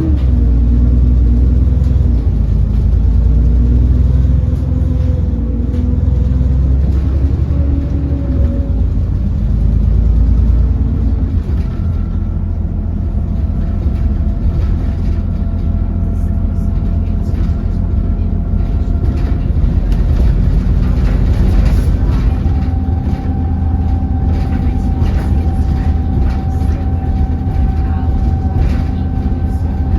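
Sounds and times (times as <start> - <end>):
bus engine rumble: 0.0 - 29.9
high bus whine: 0.0 - 29.9.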